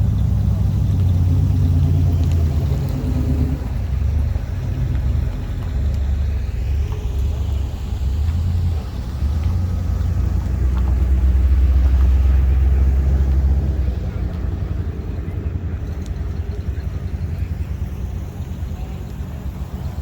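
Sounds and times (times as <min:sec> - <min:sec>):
car engines rumbling: 0:00.0 - 0:20.0.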